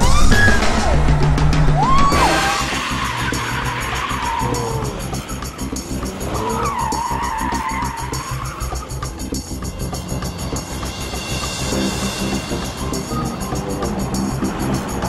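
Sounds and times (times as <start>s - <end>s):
car tyres squealing: 0.0s - 15.0s
music with quick steady beat: 0.0s - 15.0s.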